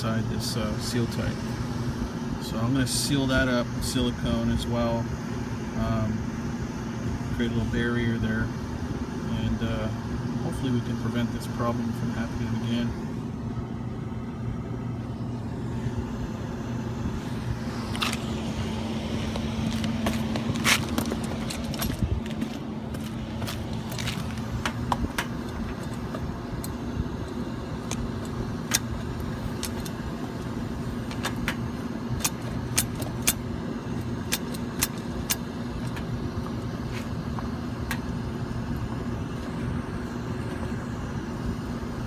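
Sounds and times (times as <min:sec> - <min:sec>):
hvac unit humming: 0:00.0 - 0:42.0.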